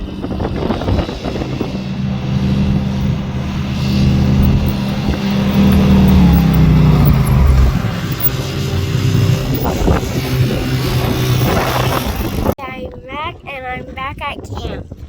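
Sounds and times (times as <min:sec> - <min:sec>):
quad bike engine running: 0:00.0 - 0:12.6.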